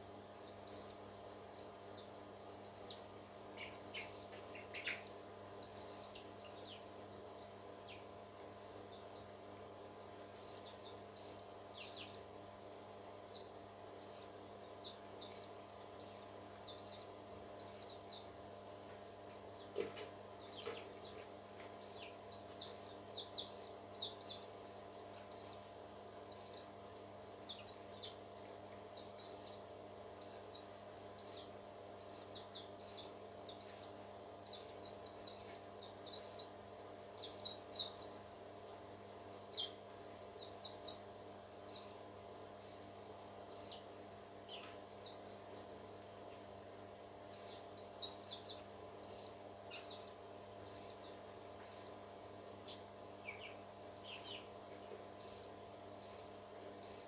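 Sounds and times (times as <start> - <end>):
chicks cheeping: 0.0 - 57.0
steady mechanical hum: 0.0 - 57.0.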